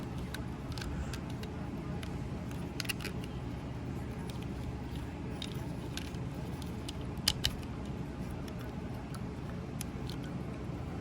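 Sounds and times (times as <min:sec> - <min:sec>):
plastic toy parts clicking: 0:00.0 - 0:03.4, 0:04.2 - 0:10.3
steady low hum: 0:00.0 - 0:11.0.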